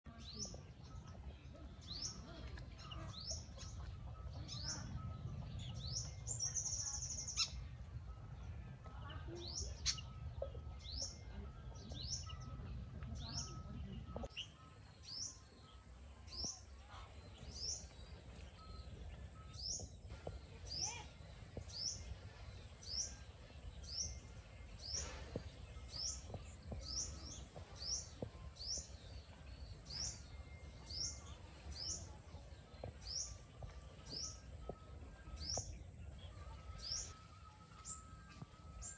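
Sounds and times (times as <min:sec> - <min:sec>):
bird chirping: 0:00.1 - 0:38.9.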